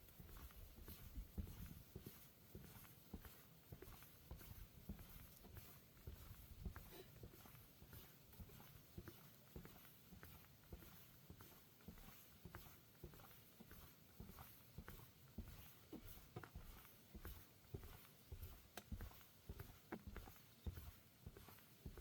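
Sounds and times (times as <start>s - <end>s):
faint footsteps on path: 0.0s - 22.0s.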